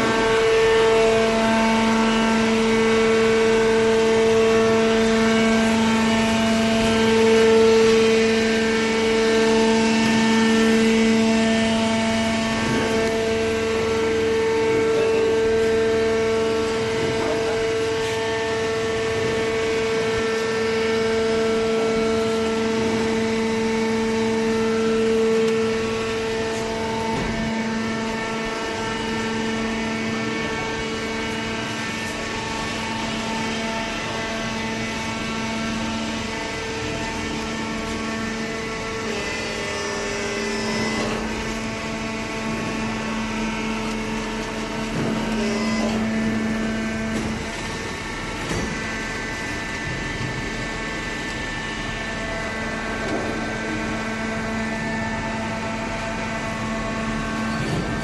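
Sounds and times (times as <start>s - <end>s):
hydraulic baling press humming: 0.0s - 58.0s.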